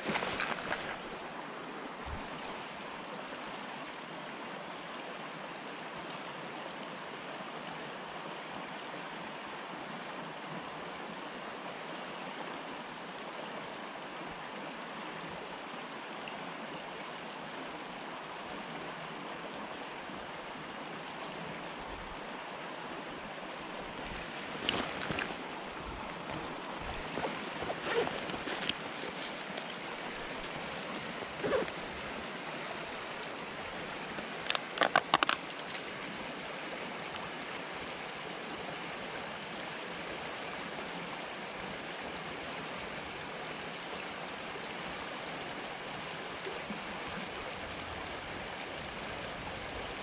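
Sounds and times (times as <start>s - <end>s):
creek water flowing: 0.0s - 50.0s.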